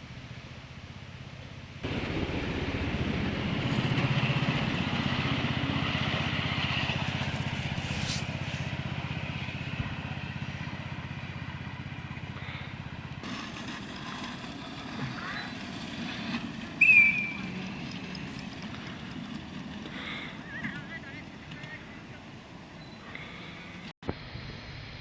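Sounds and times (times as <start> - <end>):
small train engine humming: 0.0 - 25.0.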